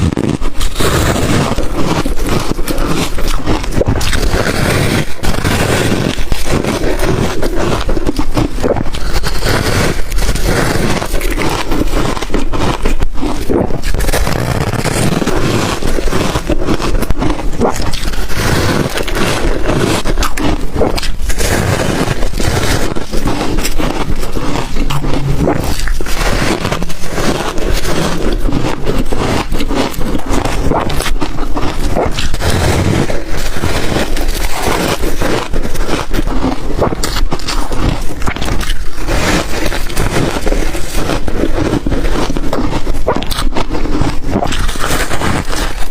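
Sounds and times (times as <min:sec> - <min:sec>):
ice being crunched and chewed: 0:00.0 - 0:45.9.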